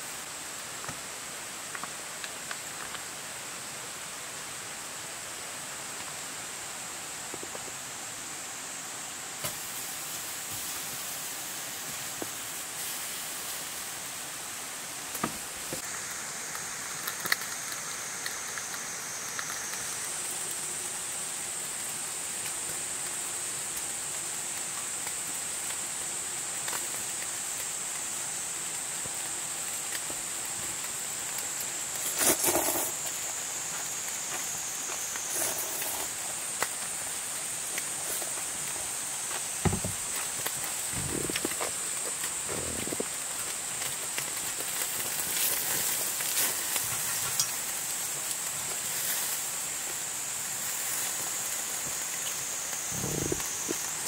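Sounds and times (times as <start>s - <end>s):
meat sizzling on grill: 8.8s - 54.0s.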